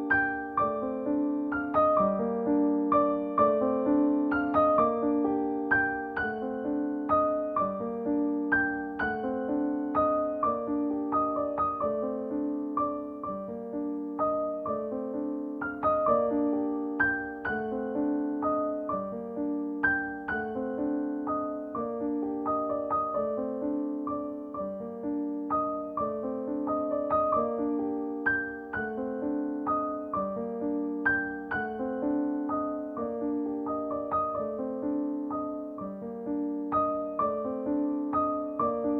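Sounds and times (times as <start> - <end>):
gentle piano music: 0.0 - 38.9.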